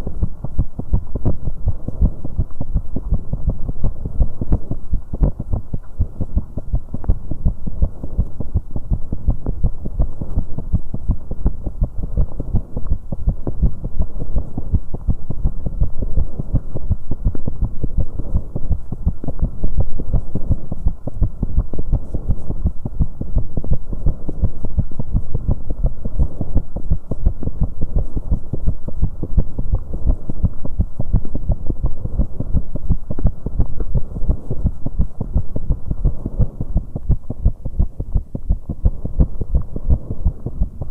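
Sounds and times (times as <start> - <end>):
fast heartbeat thuds: 0.0 - 40.9
low rumble: 0.0 - 40.9.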